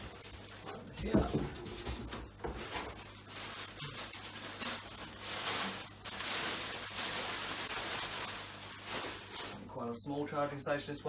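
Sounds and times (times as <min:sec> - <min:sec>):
packaging rustling: 0:00.0 - 0:09.7.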